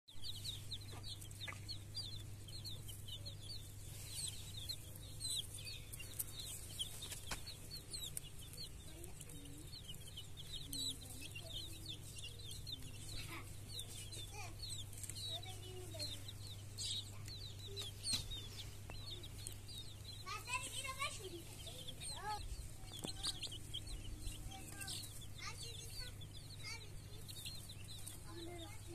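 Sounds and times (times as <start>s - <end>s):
baby chicks peeping: 0.1s - 28.9s
steady low hum: 0.2s - 28.9s.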